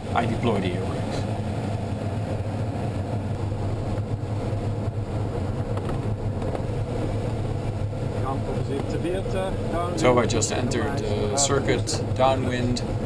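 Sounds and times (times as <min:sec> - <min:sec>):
airflow rushing around glider: 0:00.0 - 0:13.0
low rumble: 0:00.0 - 0:13.0.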